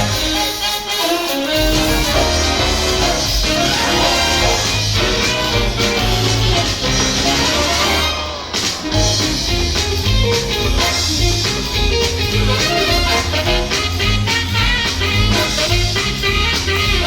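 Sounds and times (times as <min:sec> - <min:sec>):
instrumental music with bass beat: 0:00.0 - 0:17.0.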